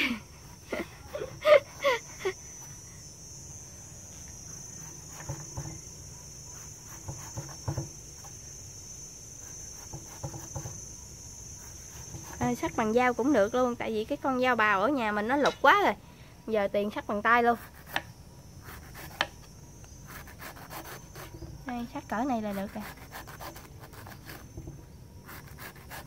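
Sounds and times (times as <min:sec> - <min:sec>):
crickets droning: 0:00.0 - 0:26.0.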